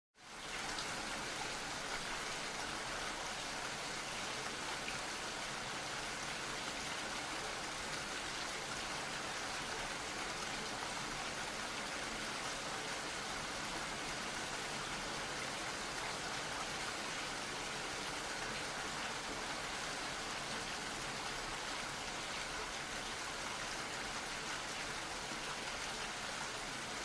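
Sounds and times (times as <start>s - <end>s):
steady rainfall: 0.2s - 27.0s.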